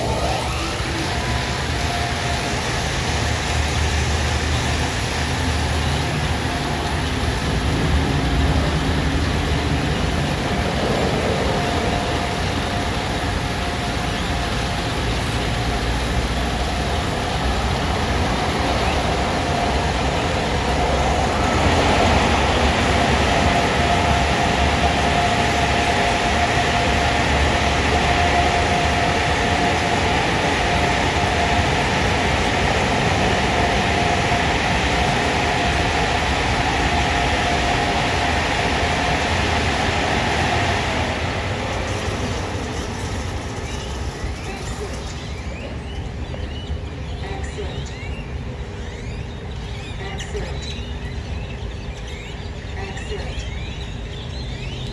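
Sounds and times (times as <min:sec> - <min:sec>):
car wash machinery running: 0:00.0 - 0:54.9.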